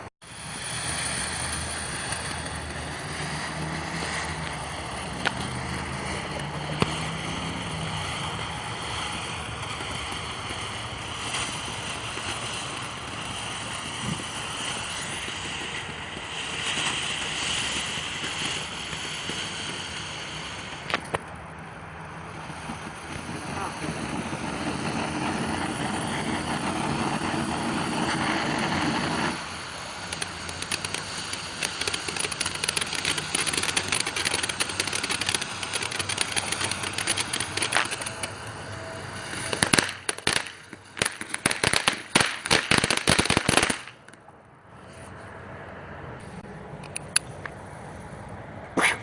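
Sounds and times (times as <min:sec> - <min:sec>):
firecracker bangs: 0:00.0 - 0:21.3, 0:22.1 - 0:44.0
fireworks crackling: 0:00.0 - 0:45.0
steady rushing noise: 0:00.0 - 0:49.0.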